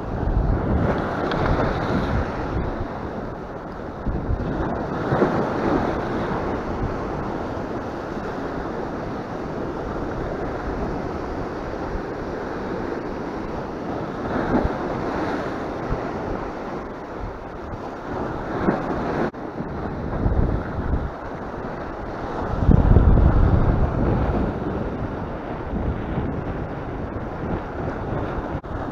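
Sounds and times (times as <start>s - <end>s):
wind buffeting microphone: 0.0s - 28.9s
waves breaking on rocks: 0.3s - 28.9s.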